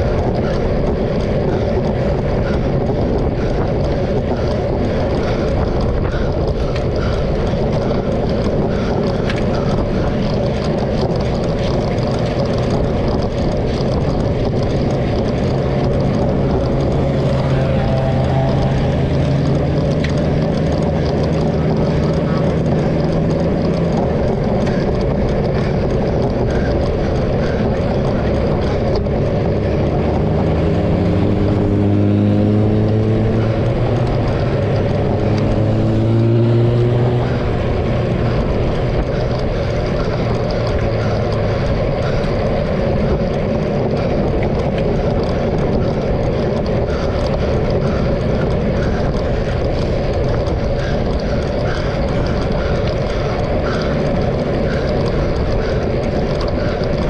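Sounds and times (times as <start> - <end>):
vehicle engine running: 0.0 - 57.0
wind and road noise: 0.0 - 57.0.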